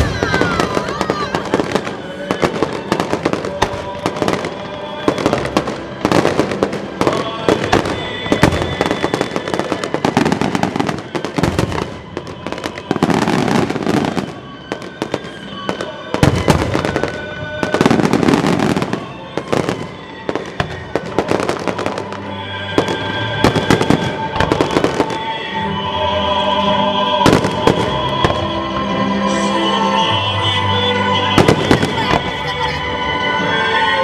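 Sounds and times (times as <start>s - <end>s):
fireworks bangs and crackling: 0.0s - 33.9s
music playing: 0.0s - 34.0s.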